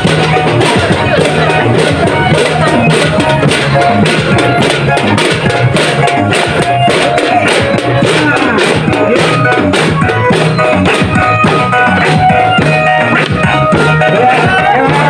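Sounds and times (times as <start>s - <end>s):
marching drums beating: 0.0s - 15.0s
melodic music: 0.0s - 15.0s.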